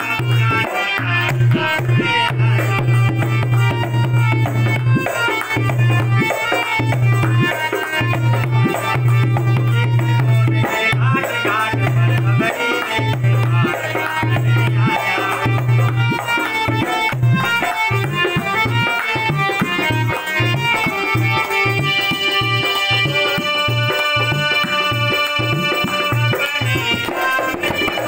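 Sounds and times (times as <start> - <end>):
dholak drum beats: 0.0 - 28.0
harmonium sustained chords: 0.0 - 28.0
man singing: 0.0 - 28.0.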